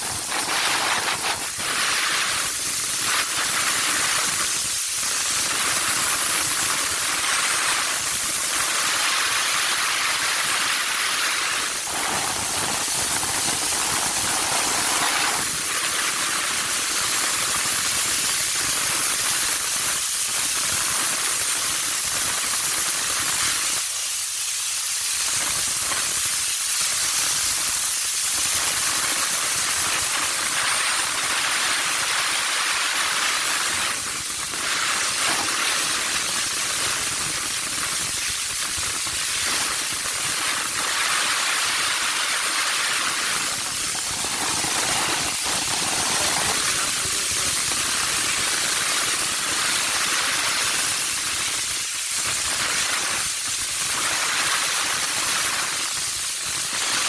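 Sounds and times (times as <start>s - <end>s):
steam wand hissing: 0.0s - 57.0s.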